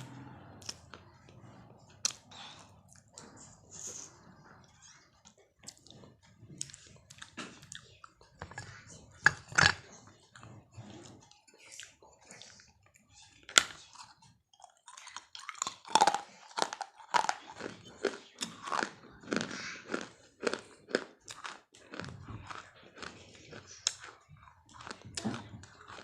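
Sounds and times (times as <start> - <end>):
brittle crunching and chewing: 0.1 - 3.5, 5.3 - 12.4, 13.4 - 26.0.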